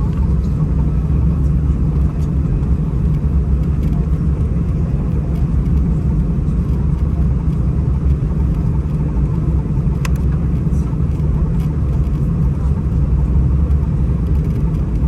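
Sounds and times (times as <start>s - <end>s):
jet cabin engine rumble: 0.0s - 15.0s.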